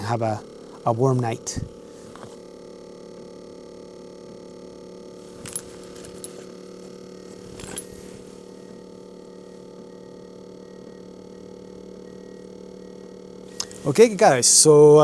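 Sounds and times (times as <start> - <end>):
diesel air heater humming: 0.0 - 15.0.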